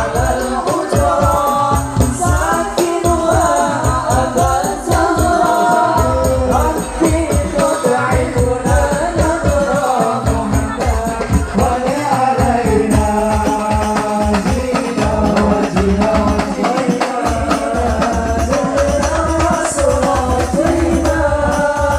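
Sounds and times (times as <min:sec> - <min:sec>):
fast percussion beat: 0:00.0 - 0:21.9.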